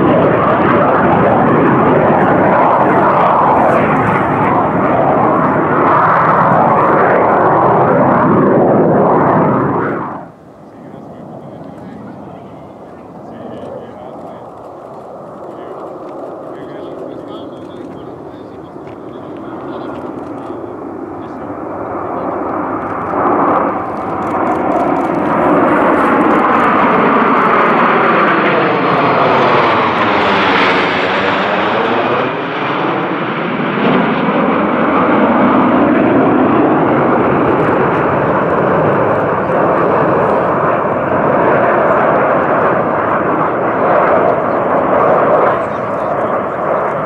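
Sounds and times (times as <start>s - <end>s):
jets flying past: 0.0s - 47.0s.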